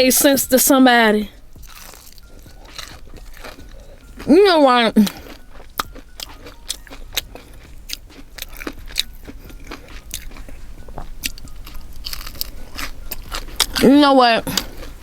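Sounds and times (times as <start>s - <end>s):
chewing crunchy fried food: 1.3s - 15.0s.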